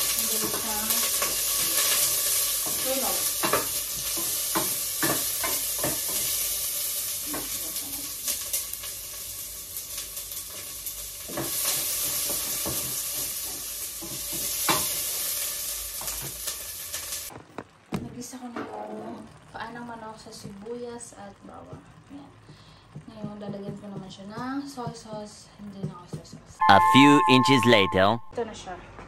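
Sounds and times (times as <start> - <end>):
onion and garlic sizzling in oil: 0.0 - 26.9.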